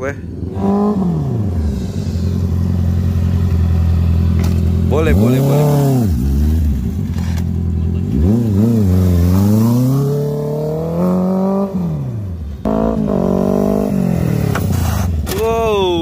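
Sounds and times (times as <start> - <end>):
motorcycle engine revving: 0.0 - 15.3
engine running at high revs: 0.3 - 15.2.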